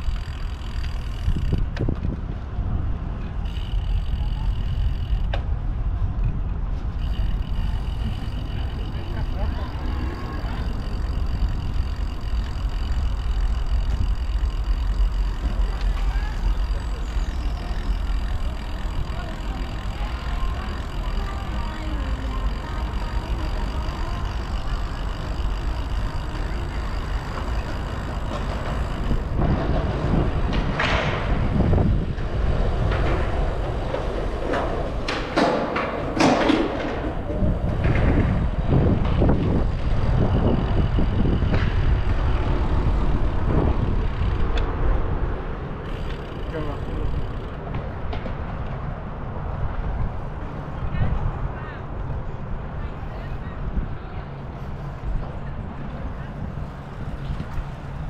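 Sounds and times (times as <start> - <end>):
bicycle ride rumble: 0.0 - 58.0.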